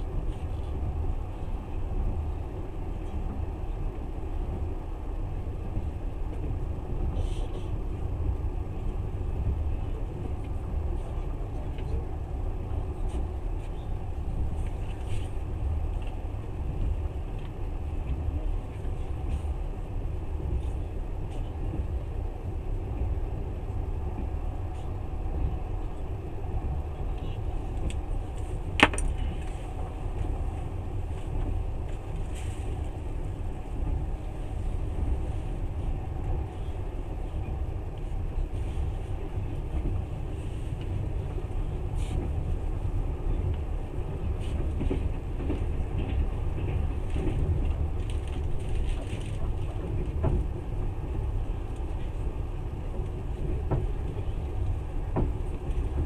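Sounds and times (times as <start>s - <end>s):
train rumbling inside carriage: 0.0s - 56.0s.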